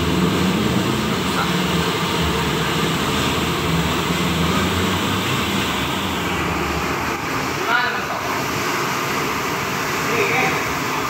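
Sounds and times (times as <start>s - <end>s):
steady mechanical drone: 0.0s - 11.0s.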